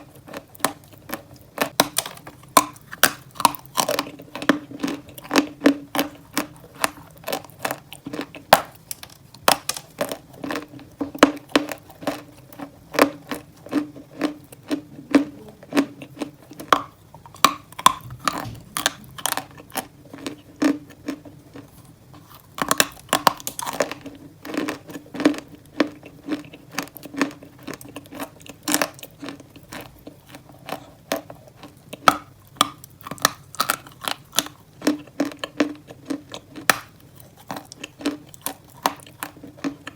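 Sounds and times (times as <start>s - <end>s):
chalk crunching being chewed: 0.0s - 39.9s.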